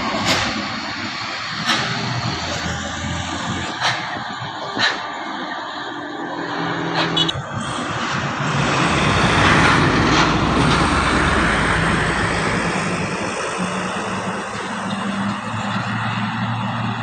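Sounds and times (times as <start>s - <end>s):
road and wind noise: 0.0s - 17.0s
truck engine running hard: 0.0s - 17.0s.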